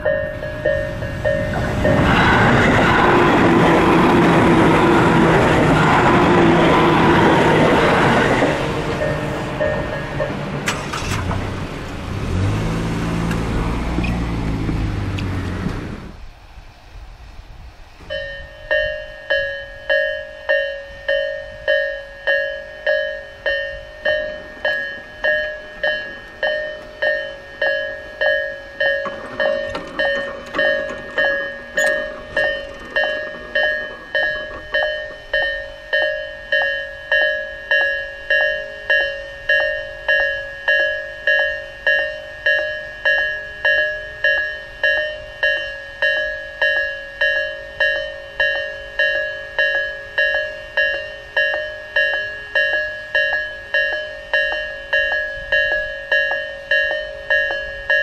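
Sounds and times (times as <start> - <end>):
level crossing alarm dinging: 0.0 - 11.2, 18.1 - 58.0.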